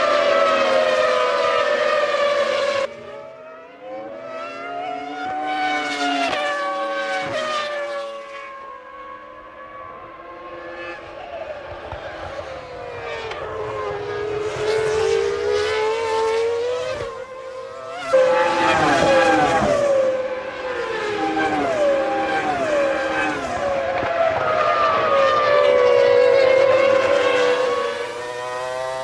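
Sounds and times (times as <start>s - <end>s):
racing car engine at high revs: 0.0s - 29.0s.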